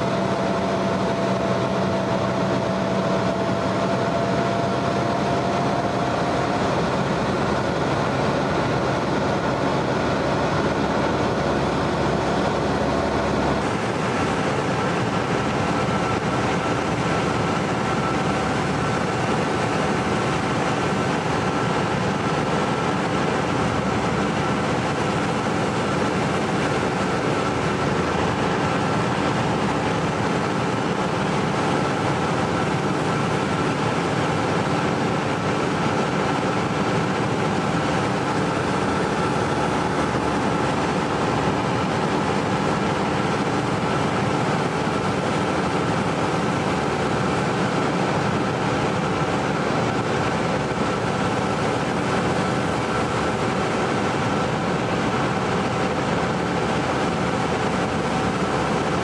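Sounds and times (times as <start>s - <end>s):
light aircraft engine in cabin: 0.0s - 59.0s.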